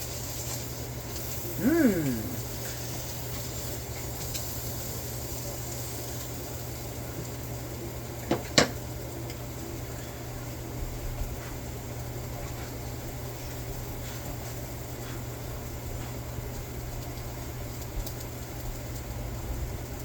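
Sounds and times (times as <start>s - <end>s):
kitchen hum and hiss: 0.0s - 20.0s.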